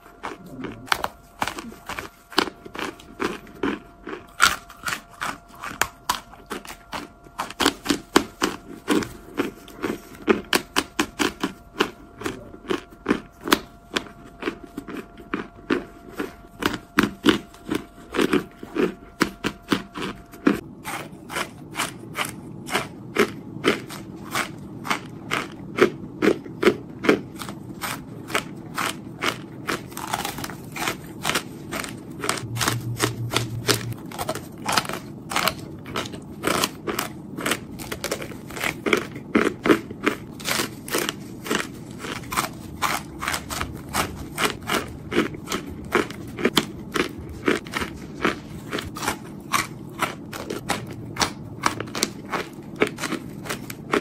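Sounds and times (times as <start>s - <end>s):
squeaky crunching while chewing: 0.0s - 54.0s.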